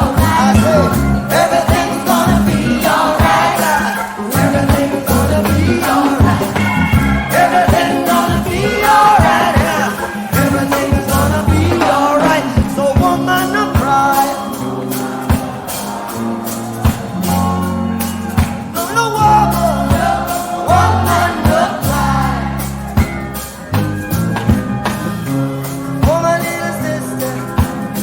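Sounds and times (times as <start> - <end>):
person singing: 0.0 - 23.1
bass line: 0.0 - 28.0
percussive beat: 0.0 - 28.0.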